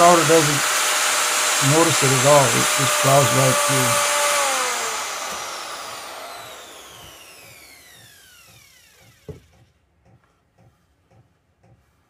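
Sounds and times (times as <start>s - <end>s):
router motor winding down: 0.0s - 9.7s.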